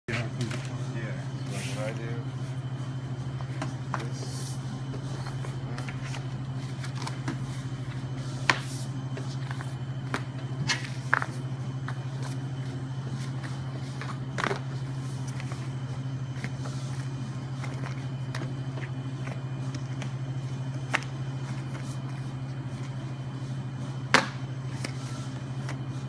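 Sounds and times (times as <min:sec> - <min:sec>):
low machine hum: 0:00.1 - 0:26.0.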